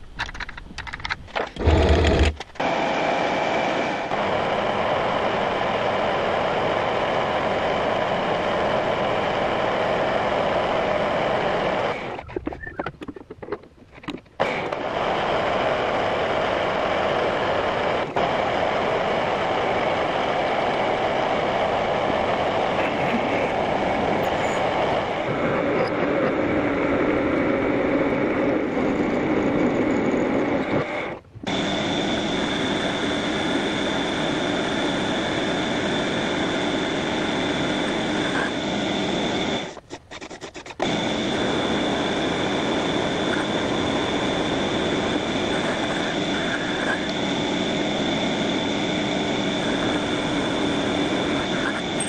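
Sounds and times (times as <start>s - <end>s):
steady high whine: 0.0s - 52.0s.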